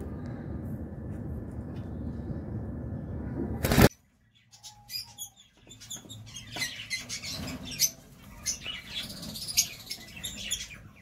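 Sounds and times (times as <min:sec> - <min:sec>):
lovebirds chirping: 0:02.0 - 0:11.0.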